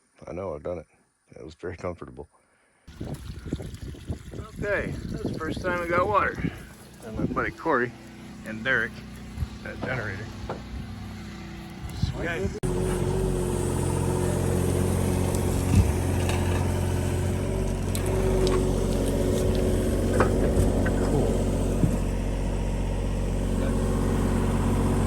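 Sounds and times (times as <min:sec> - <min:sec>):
engine running steadily: 0:02.9 - 0:25.0.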